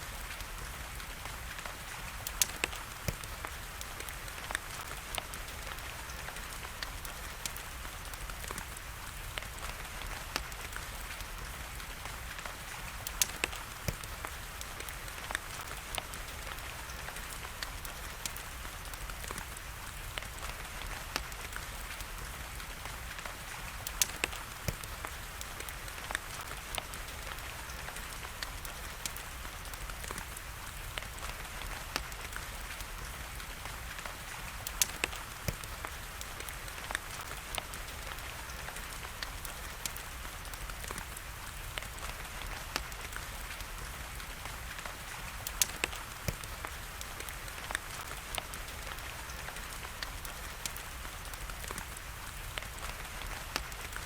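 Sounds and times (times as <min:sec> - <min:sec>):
fire crackling and popping: 0:00.0 - 0:54.0
steady rain hiss: 0:00.0 - 0:54.0.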